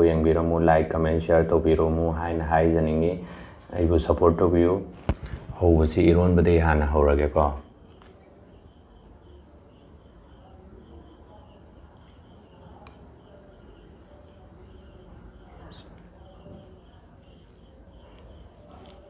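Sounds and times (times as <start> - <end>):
faint insect chirping: 0.0 - 19.0.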